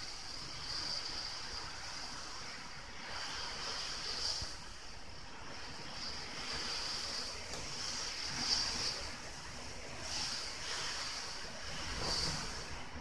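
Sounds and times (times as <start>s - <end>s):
strong wind: 0.0s - 13.0s.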